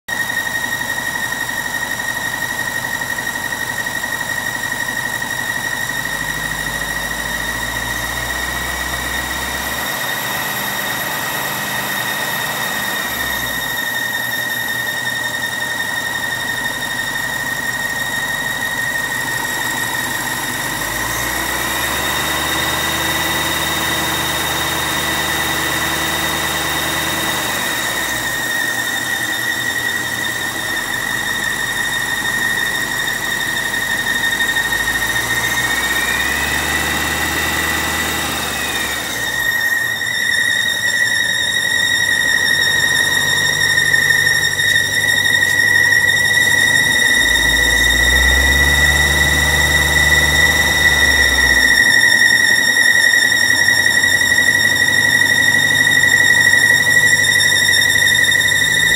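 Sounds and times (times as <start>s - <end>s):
high-pitched squeal: 0.0s - 58.9s.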